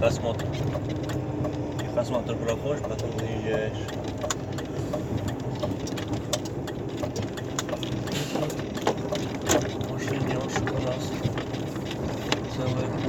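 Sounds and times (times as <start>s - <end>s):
truck engine running: 0.0s - 13.0s
clicks and rattles: 0.3s - 13.0s.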